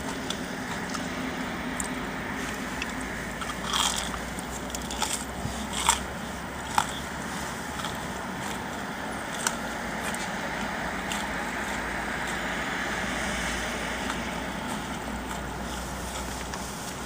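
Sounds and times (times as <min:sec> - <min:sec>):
low steady hum: 0:00.0 - 0:17.0
road vehicle noise: 0:00.0 - 0:17.0.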